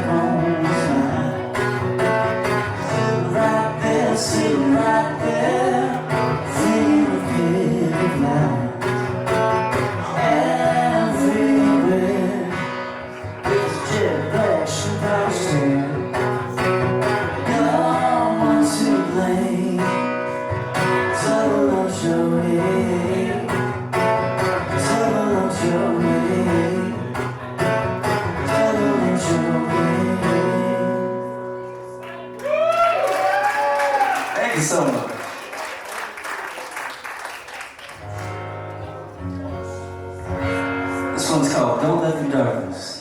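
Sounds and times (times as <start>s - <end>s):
guitar playing instrumental: 0.0s - 32.4s, 38.0s - 43.0s.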